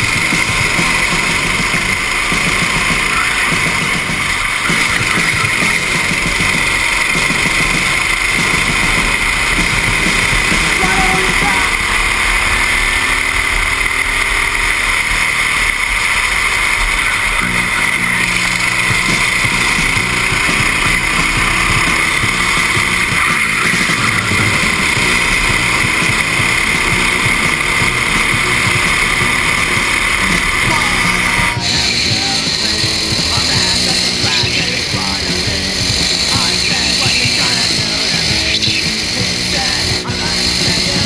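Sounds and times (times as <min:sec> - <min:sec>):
go-kart engine racing: 0:00.0 - 0:41.0.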